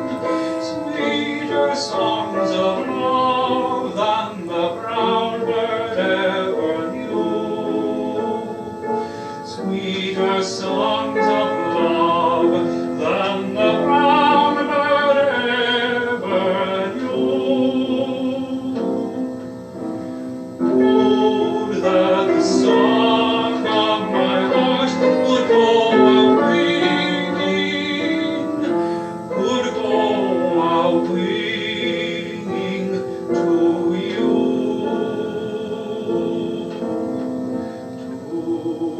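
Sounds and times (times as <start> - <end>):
man singing with vibrato: 0.0 - 19.4, 20.6 - 38.9
piano accompaniment: 0.0 - 38.9.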